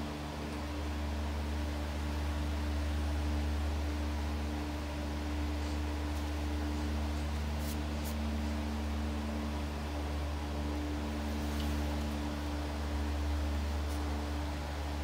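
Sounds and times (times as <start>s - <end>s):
room tone hum and hiss: 0.0s - 15.0s.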